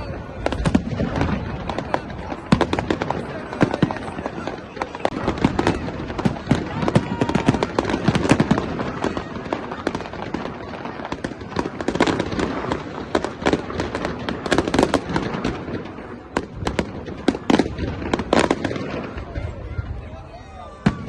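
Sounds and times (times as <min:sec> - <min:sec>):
fireworks bangs and crackling pops: 0:00.0 - 0:21.0.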